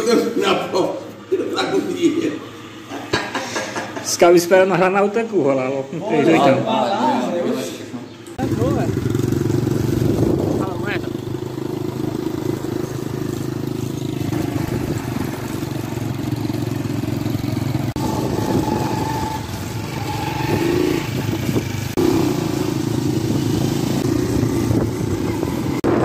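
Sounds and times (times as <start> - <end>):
small motorcycle engines running: 0.1 - 4.8, 8.4 - 26.0.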